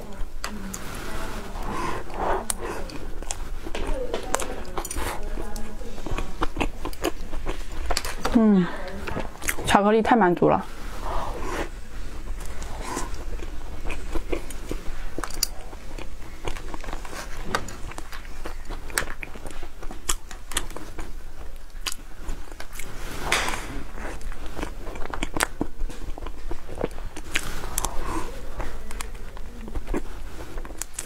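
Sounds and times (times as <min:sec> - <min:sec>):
chewing and mouth sounds: 0:01.5 - 0:09.8, 0:11.0 - 0:31.0.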